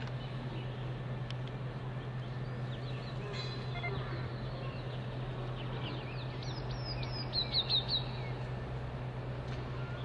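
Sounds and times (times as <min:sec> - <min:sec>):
small birds chirping: 0:00.0 - 0:08.6
steady low hum: 0:00.0 - 0:10.0.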